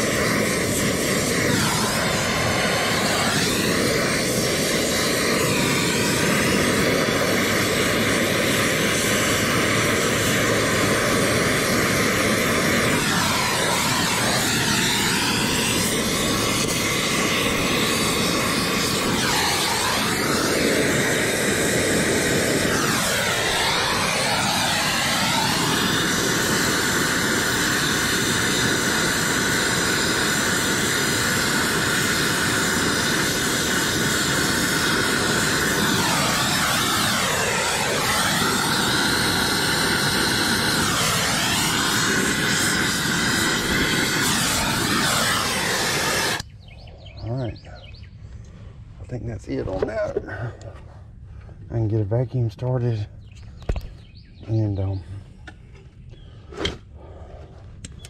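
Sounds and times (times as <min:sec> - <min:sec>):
torch flame hissing: 0:00.0 - 0:48.0.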